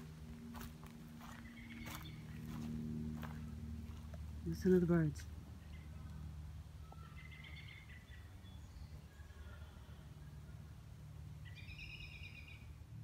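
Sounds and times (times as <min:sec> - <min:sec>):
low hum: 0:00.0 - 0:13.0
songbirds calling: 0:00.0 - 0:13.0.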